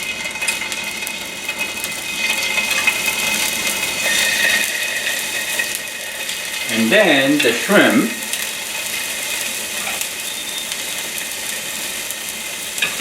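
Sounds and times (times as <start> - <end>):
scallops sizzling in hot oil: 0.0 - 13.0.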